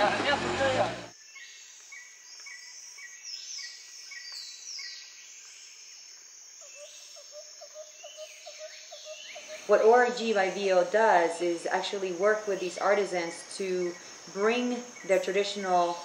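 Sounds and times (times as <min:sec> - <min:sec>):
insects calling: 0:01.1 - 0:16.0.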